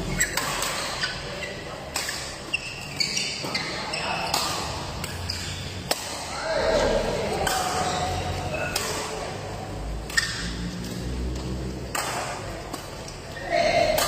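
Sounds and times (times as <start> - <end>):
rackets hitting shuttlecock: 0.1 - 1.2, 1.8 - 6.4, 7.3 - 14.0.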